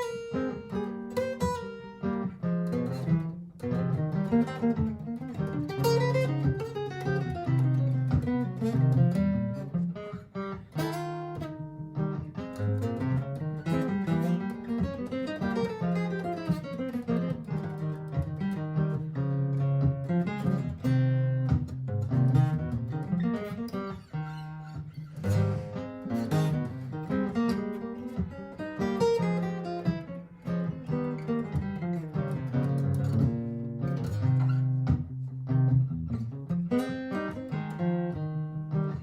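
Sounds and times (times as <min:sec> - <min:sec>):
acoustic guitar plucked notes: 0:00.0 - 0:39.0
looped guitar part: 0:00.0 - 0:39.0.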